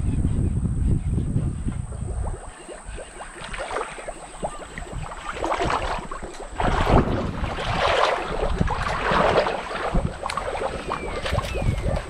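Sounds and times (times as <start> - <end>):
water splashing around wading legs: 2.0 - 12.0.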